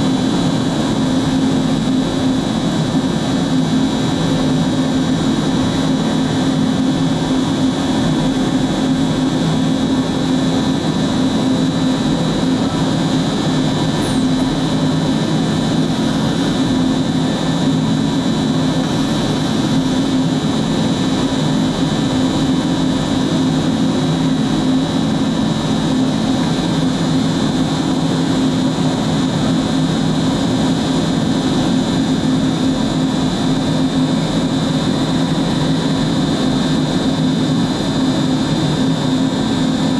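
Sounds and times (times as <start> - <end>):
cnc router whirring: 0.0 - 39.9.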